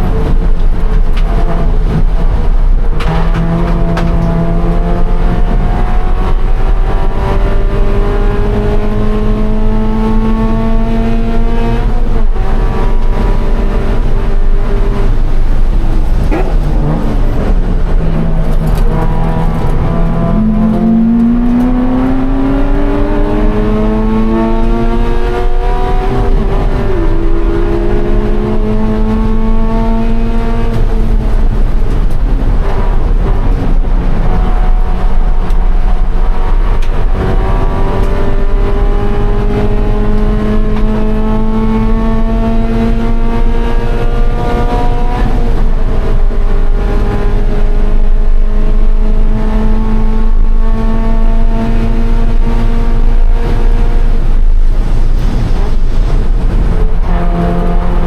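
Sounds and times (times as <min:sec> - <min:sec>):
car engine accelerating through gears: 0:00.0 - 0:58.0
low road rumble: 0:00.0 - 0:58.0.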